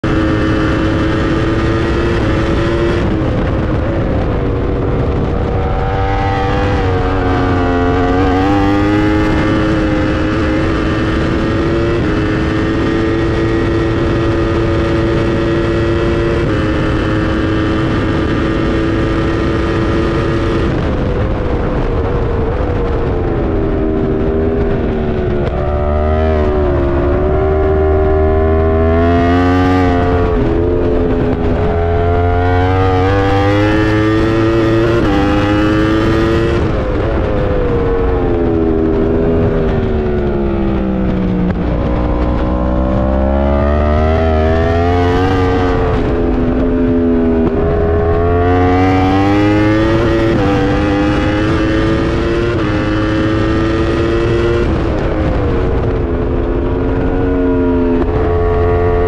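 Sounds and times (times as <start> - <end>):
heavy wind noise: 0.0 - 59.0
motorcycle engine at full speed: 0.0 - 59.0.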